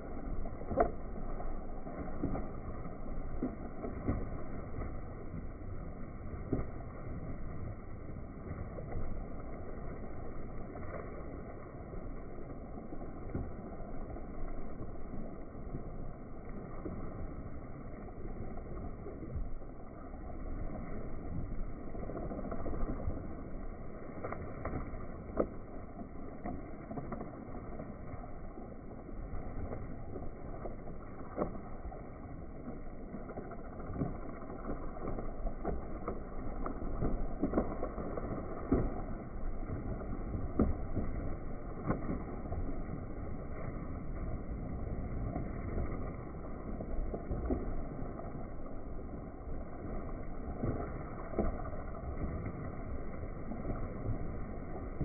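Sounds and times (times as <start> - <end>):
faint splashes: 0.0 - 55.0
water gushing from pipe: 0.0 - 55.0.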